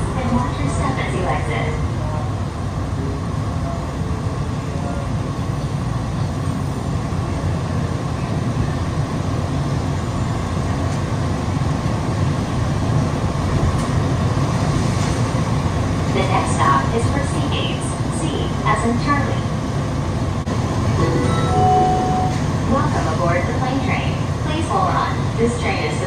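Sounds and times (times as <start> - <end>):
train car rumbling in tunnel: 0.0 - 26.0.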